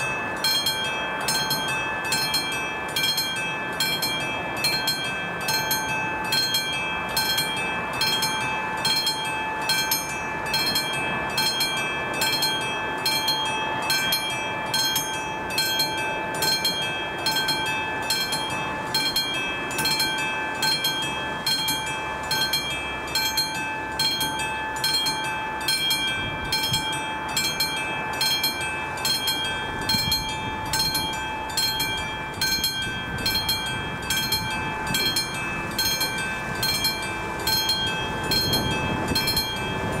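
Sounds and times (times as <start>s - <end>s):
level crossing warning bell: 0.0s - 40.0s
low rumble of rail traffic: 0.0s - 40.0s
steady tone: 0.0s - 40.0s.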